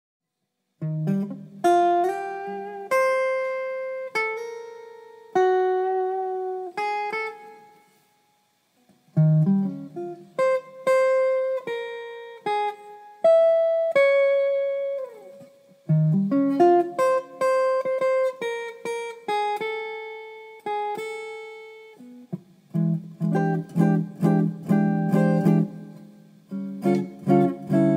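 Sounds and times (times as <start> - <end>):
solo guitar plucked melody: 0.8 - 27.9.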